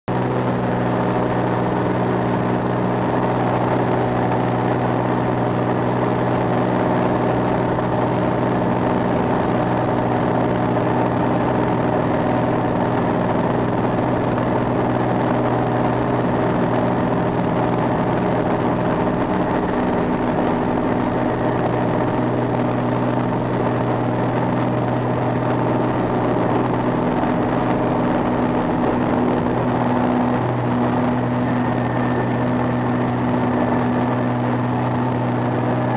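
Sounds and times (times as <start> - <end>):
small aeroplane engine droning: 0.1 - 35.9.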